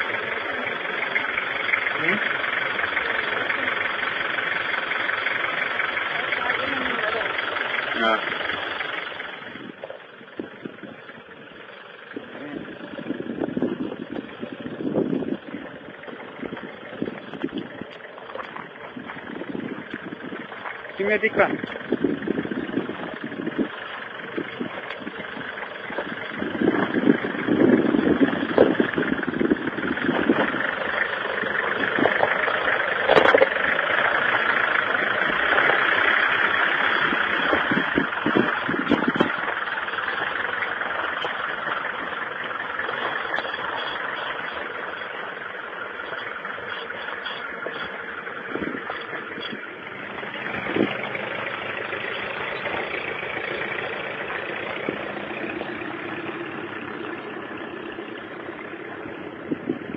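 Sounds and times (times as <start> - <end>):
suv engine running at low speed: 0.0 - 59.9.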